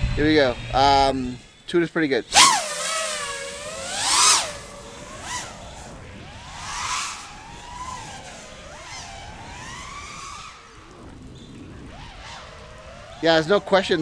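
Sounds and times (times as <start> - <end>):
drone motors whining: 2.3 - 14.0.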